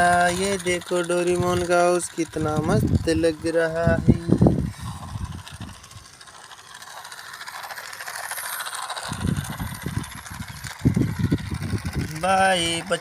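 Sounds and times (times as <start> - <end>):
toy train clattering on track: 0.0 - 13.0
toy train motor whirring: 0.0 - 13.0.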